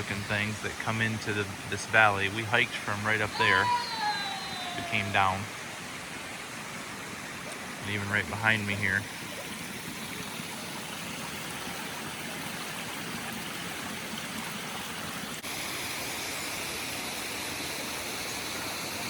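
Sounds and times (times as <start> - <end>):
water rushing in stream: 0.0 - 19.0.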